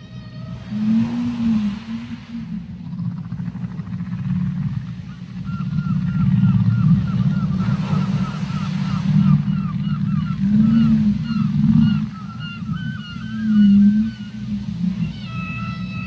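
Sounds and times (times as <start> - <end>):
low rumble of water: 0.0 - 16.0
whale chirping calls: 0.0 - 16.0
whale low moans: 0.0 - 16.0.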